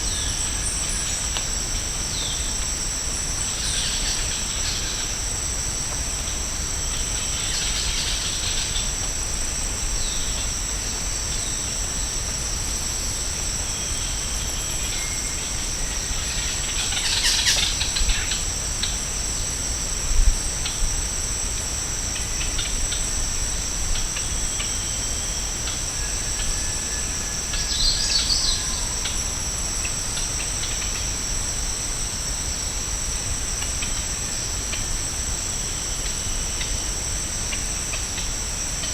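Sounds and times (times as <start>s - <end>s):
insects droning high: 0.0s - 38.9s.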